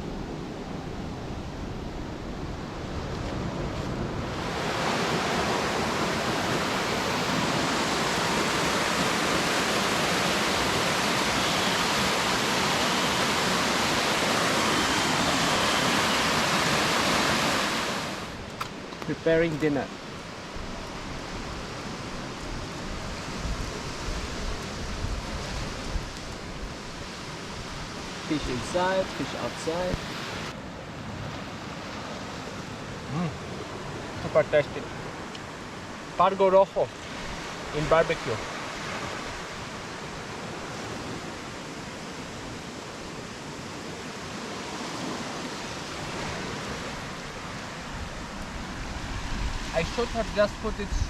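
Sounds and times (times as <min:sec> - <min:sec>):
water rushing: 0:04.2 - 0:30.6, 0:31.4 - 0:51.0.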